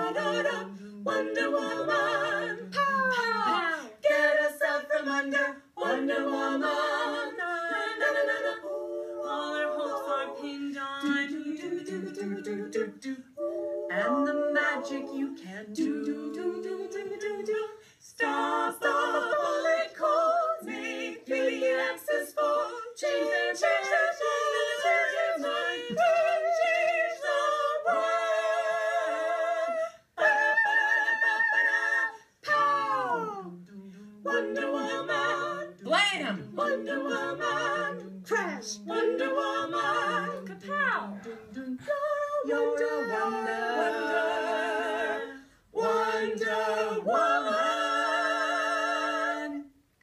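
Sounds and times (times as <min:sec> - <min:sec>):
vocal group singing in harmony: 0:00.0 - 0:50.0.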